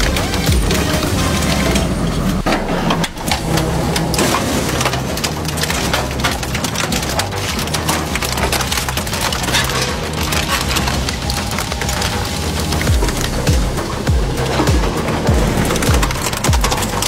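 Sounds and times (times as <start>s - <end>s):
industrial shredder humming: 0.0s - 17.0s
metal cracking and crunching: 0.0s - 17.0s.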